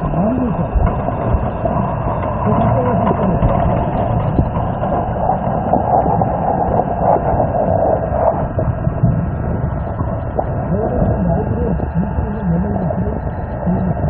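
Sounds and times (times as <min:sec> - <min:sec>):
muffled underwater river rush: 0:00.0 - 0:14.0.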